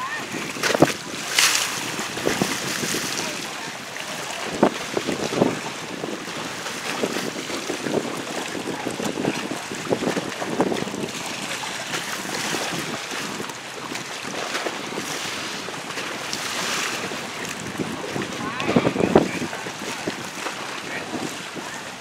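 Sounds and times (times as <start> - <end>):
choppy sea waves: 0.0 - 22.0
wind buffeting microphone: 0.0 - 22.0.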